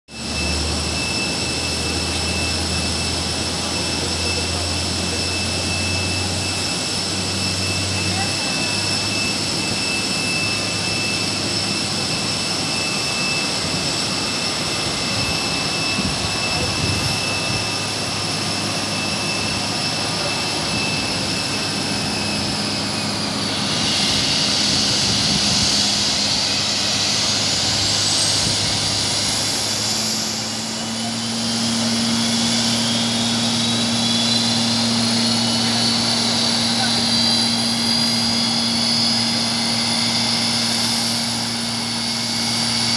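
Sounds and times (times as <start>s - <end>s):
jet engines running: 0.1s - 42.9s.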